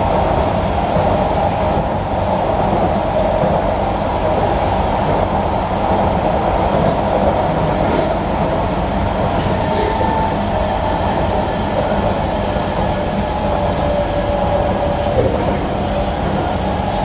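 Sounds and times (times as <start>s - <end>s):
metro train car rumble: 0.0s - 17.0s.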